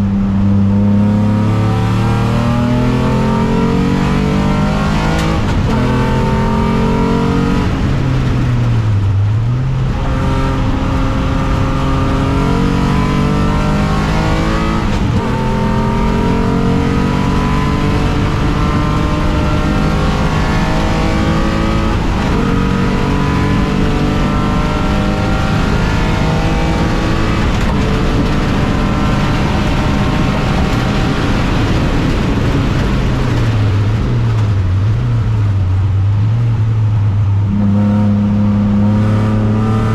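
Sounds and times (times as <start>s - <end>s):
race car engine at full throttle: 0.0s - 39.9s.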